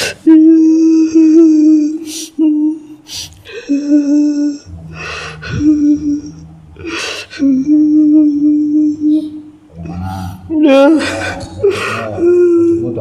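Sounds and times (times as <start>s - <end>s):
woman moaning: 0.0s - 13.0s.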